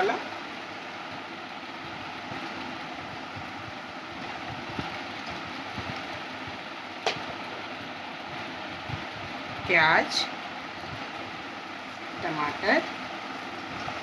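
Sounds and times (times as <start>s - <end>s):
background hiss and hum: 0.0s - 14.0s.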